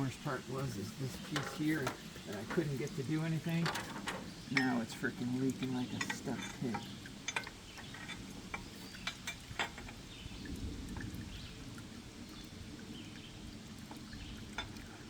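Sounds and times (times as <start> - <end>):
fluid dripping and trickling: 0.0 - 15.0.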